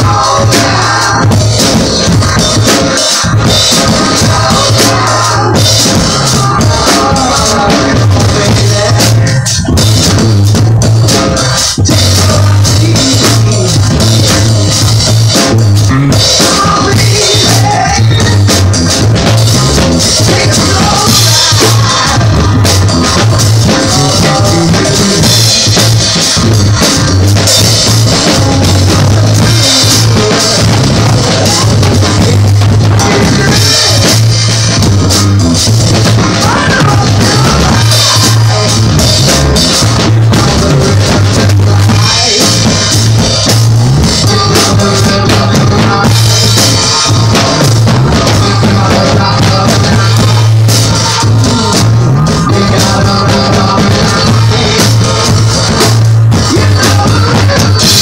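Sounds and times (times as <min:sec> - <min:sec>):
drum kit played hard: 0:00.0 - 0:58.0
rock song: 0:00.0 - 0:58.0.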